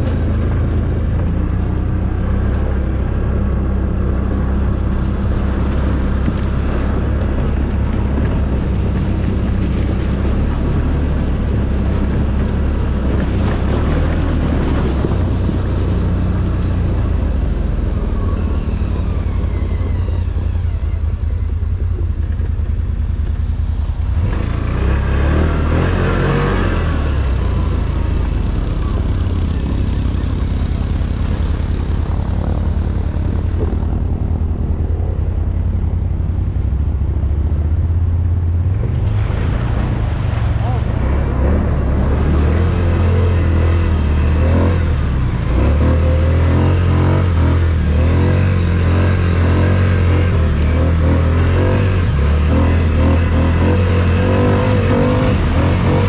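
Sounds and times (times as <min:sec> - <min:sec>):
atv engine running: 0:00.0 - 0:56.0
rush of noise: 0:00.0 - 0:56.0.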